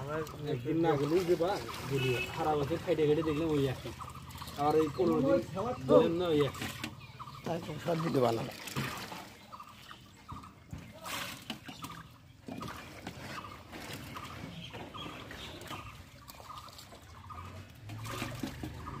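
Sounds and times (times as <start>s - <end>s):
faint calls: 0.0s - 19.0s
water splashing and trickling: 0.0s - 19.0s.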